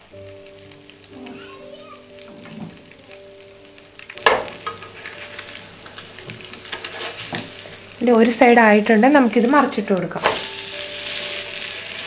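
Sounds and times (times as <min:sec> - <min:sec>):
bread sizzling in a pan: 0:00.0 - 0:12.0.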